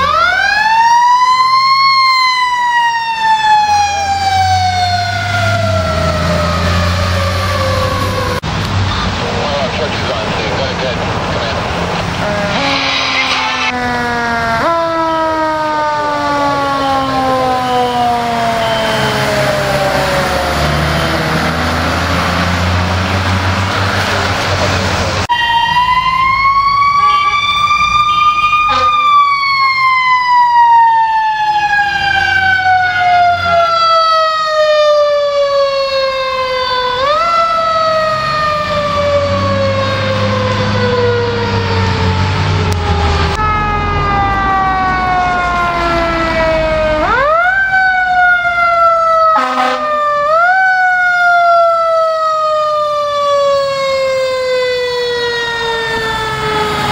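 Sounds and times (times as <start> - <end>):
mechanical siren wailing: 0.0 - 8.4, 12.0 - 22.4, 25.3 - 56.9.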